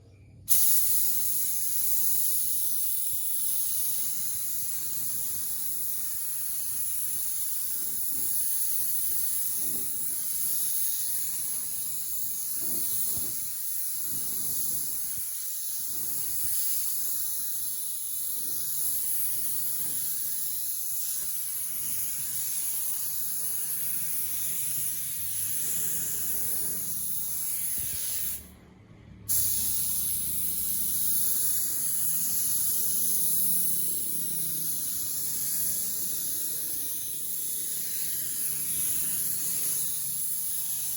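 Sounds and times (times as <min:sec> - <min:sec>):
spray gun hissing: 0:00.5 - 0:28.6, 0:29.3 - 0:40.9.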